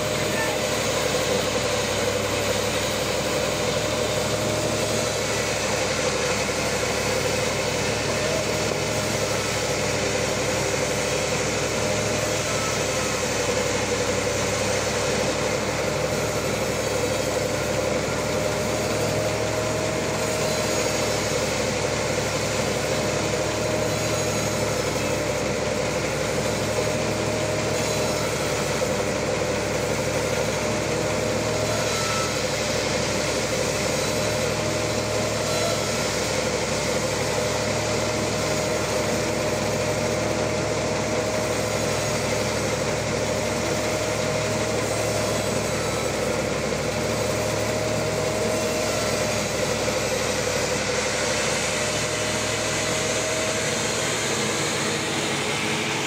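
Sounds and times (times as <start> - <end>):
band sawmill cutting log: 0.0 - 56.0.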